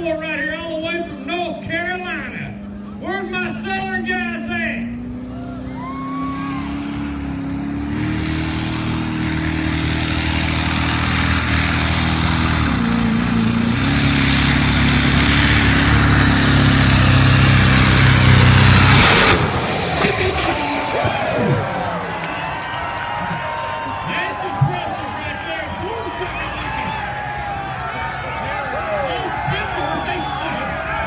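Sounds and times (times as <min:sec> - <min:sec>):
diesel truck engine under load: 0:00.0 - 0:31.0.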